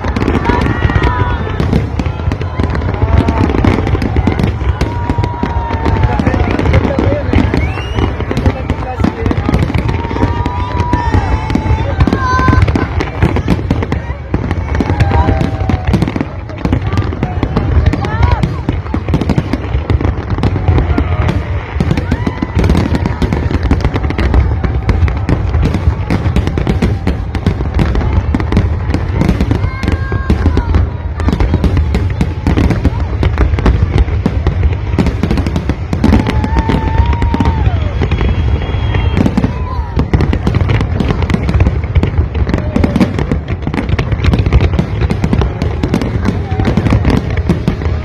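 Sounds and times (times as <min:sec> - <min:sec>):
booming fireworks shells: 0:00.0 - 0:48.0
fireworks cracks and bangs: 0:00.0 - 0:48.0.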